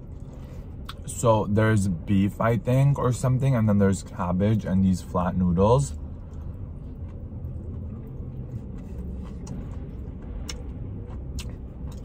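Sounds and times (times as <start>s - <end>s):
low rumble inside car: 0.0s - 12.0s.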